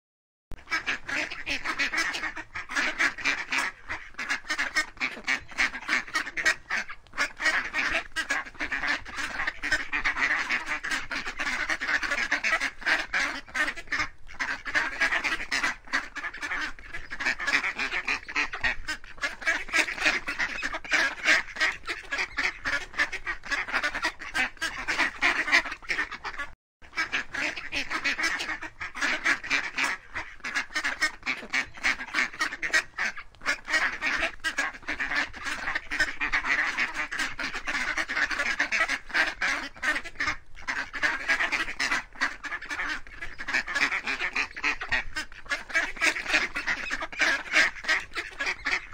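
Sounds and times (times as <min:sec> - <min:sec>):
waterfowl honking and quacking: 0:00.6 - 0:48.9.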